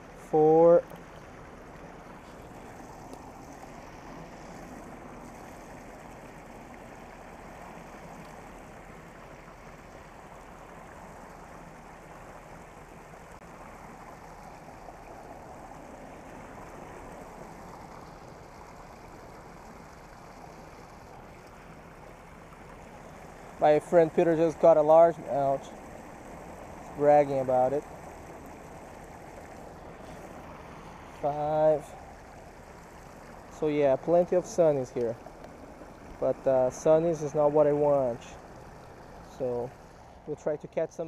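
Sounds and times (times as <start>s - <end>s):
water spilling over a weir: 0.0s - 41.0s.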